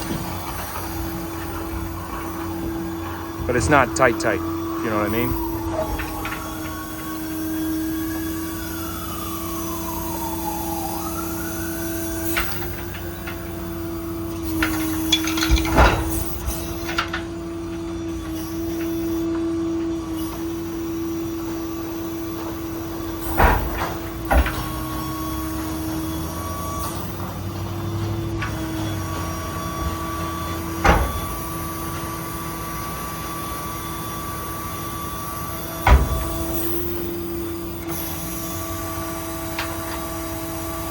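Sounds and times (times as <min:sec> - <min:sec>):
sharp metal clunks from crane: 0:00.0 - 0:08.3, 0:11.9 - 0:40.9
hydraulic whine: 0:00.0 - 0:40.9.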